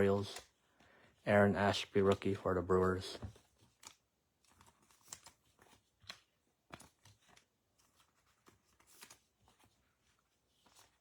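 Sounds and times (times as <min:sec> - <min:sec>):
trading cards clicking and rustling: 0:01.6 - 0:11.0.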